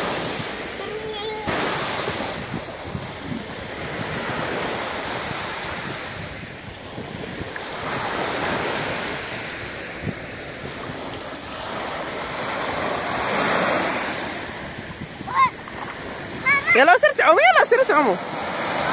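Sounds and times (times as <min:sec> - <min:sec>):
small waves breaking on beach: 0:00.0 - 0:18.9.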